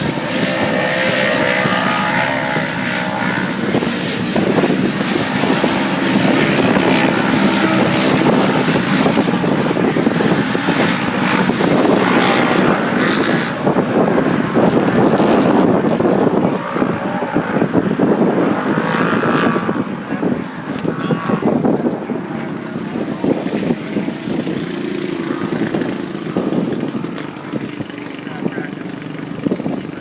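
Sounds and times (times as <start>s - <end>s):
race vehicle engine running hard: 0.0s - 30.0s
wind buffeting microphone: 0.0s - 30.0s.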